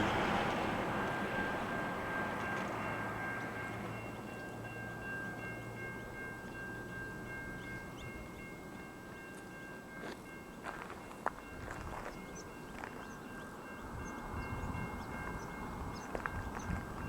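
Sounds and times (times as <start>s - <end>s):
train rumble: 0.0s - 17.0s
level crossing bells ringing: 0.8s - 17.0s.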